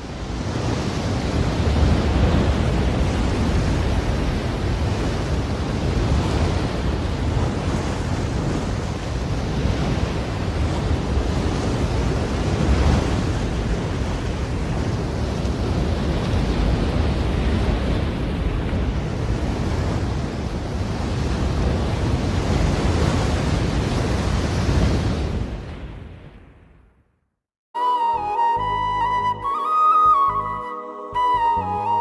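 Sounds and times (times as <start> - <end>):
wind buffeting microphone: 0.0 - 26.6.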